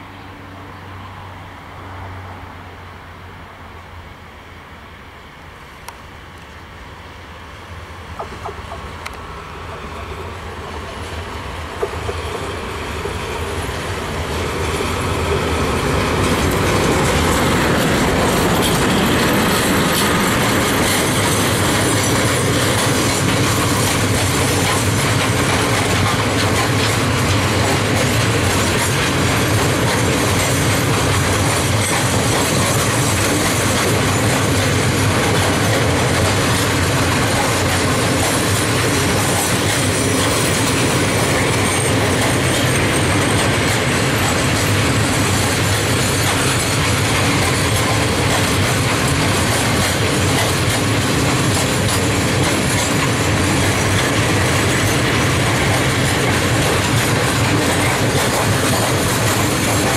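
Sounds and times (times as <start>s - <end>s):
train wheels rolling over rails: 8.0s - 59.9s.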